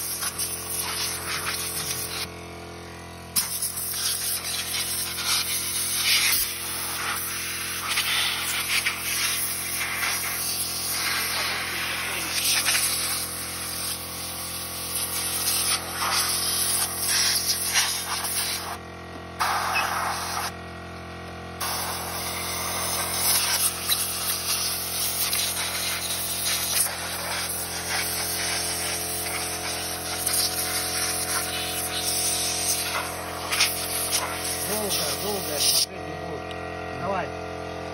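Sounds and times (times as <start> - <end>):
compressed air hissing: 0.0 - 2.3, 3.3 - 18.8, 19.4 - 20.6, 21.6 - 35.9
steady low hum: 0.0 - 37.9.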